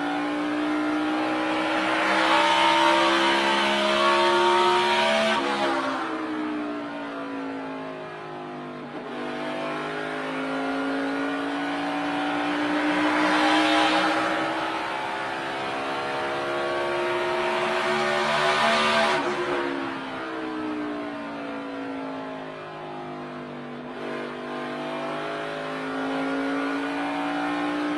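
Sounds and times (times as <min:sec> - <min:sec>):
race car engine at speed: 0:00.0 - 0:27.9.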